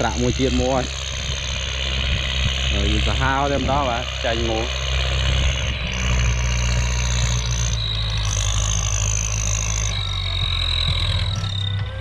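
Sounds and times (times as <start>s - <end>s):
diesel tractor engine running: 0.0s - 12.0s
high-pitched whine: 0.0s - 12.0s.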